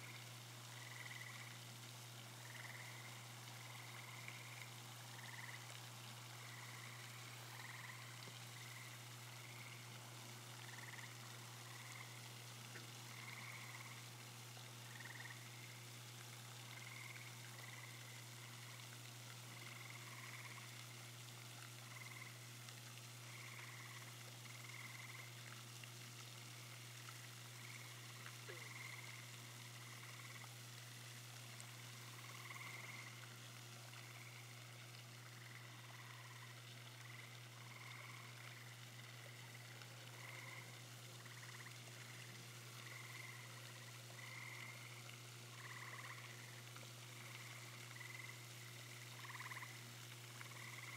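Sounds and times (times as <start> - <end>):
frogs calling: 0.0 - 1.6, 2.4 - 14.2, 14.8 - 15.8, 16.5 - 18.9, 19.5 - 21.0, 21.6 - 22.4, 23.2 - 25.5, 27.4 - 30.6, 31.9 - 33.3, 33.9 - 50.9
low hum and hiss: 0.0 - 50.9.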